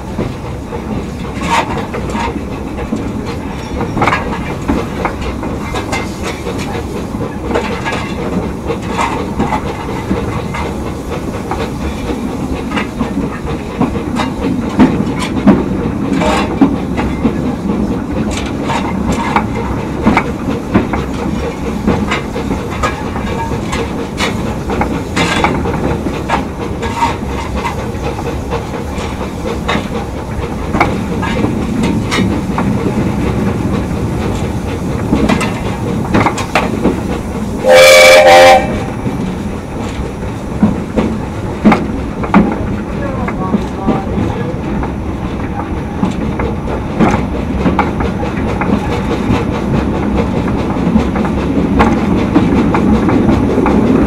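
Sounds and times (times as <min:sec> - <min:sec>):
rail joint clicks and knocks: 0:00.0 - 0:54.0
steam hissing: 0:00.0 - 0:54.0
train wheels rumbling on track: 0:00.0 - 0:54.0.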